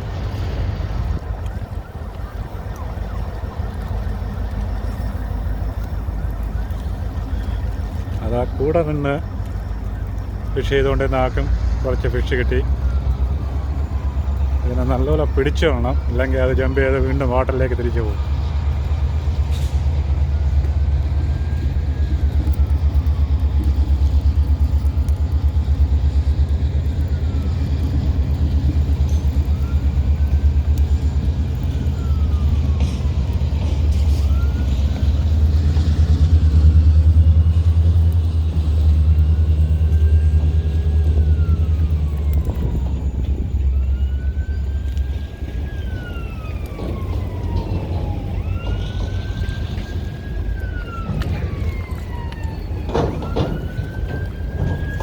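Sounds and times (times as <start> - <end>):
siren wailing: 0.0 - 55.0.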